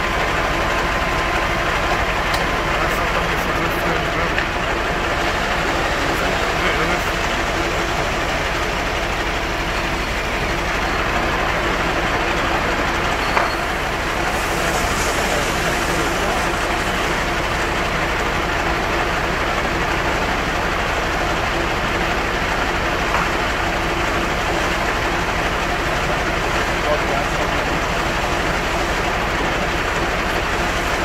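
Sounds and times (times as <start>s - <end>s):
heavy vehicle engine humming: 0.0s - 31.0s.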